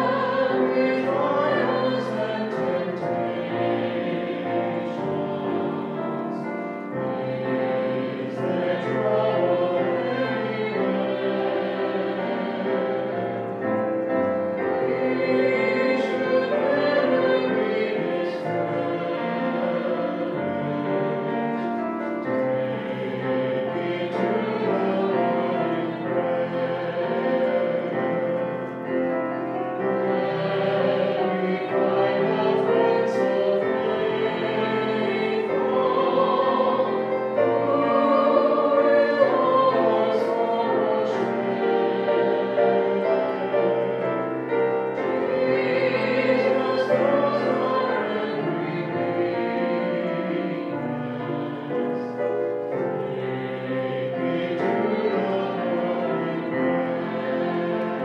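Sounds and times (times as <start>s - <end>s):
grand piano: 0.0s - 58.0s.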